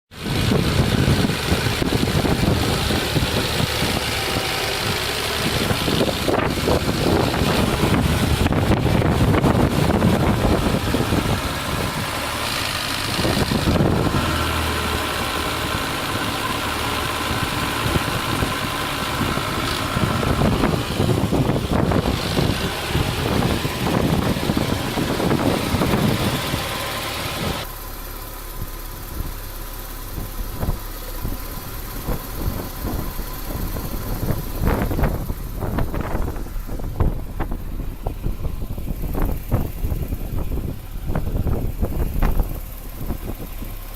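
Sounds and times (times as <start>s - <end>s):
car engine idling: 0.1s - 43.9s.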